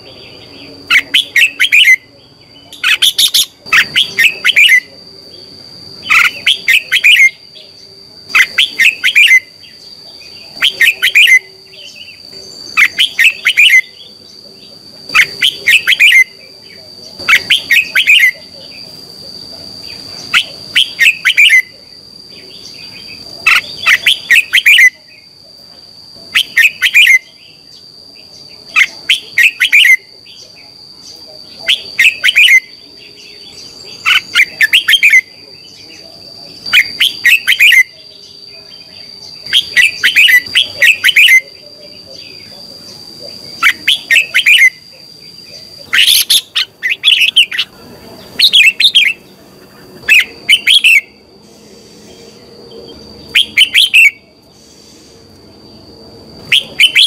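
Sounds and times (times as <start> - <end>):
bulbul singing chirpy phrases: 0.0 - 57.0
steady high-pitched whine: 0.0 - 57.0.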